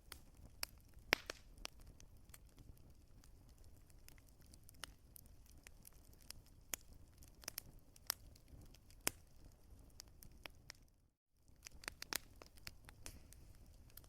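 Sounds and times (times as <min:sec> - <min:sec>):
wood fire pops and snaps: 0:00.0 - 0:10.9, 0:11.5 - 0:14.0
low rumble of flames: 0:00.0 - 0:14.0.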